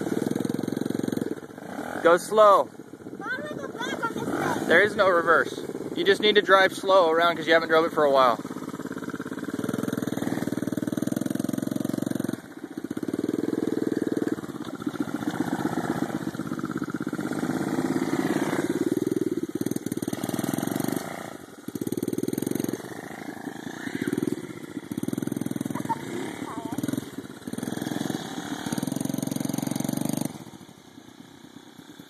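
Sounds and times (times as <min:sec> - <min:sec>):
small atv engine revving: 0:00.0 - 0:32.0.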